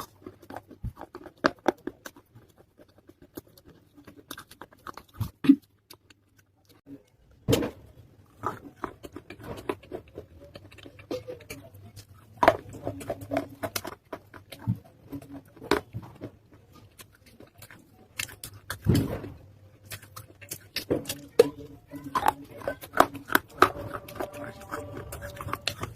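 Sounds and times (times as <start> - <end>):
chewing clay crunches: 0.0 - 25.9.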